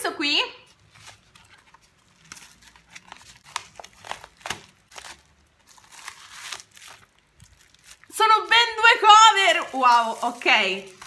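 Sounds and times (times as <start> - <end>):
envelope and plastic crinkling: 0.7 - 11.0.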